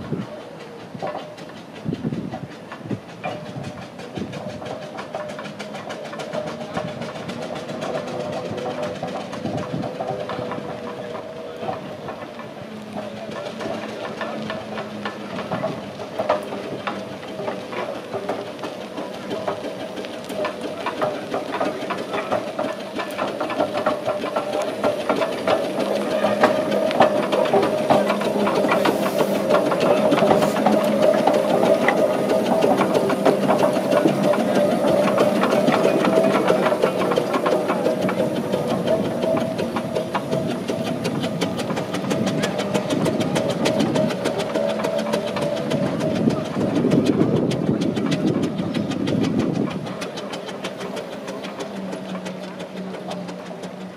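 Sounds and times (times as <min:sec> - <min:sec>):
steam hissing: 0:00.0 - 0:53.9
steam roller engine clattering: 0:00.0 - 0:53.9.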